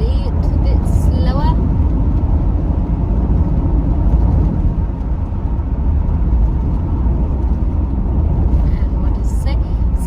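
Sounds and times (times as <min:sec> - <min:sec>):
car cabin road rumble: 0:00.0 - 0:10.0.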